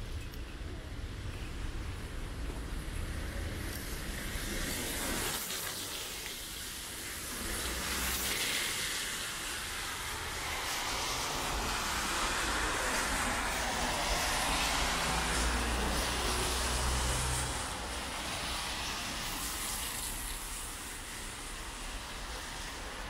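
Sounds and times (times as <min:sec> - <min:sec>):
rain: 0:00.0 - 0:23.0
traffic hissing on wet road: 0:00.9 - 0:23.0
tyres swishing over wet pavement: 0:01.6 - 0:23.0.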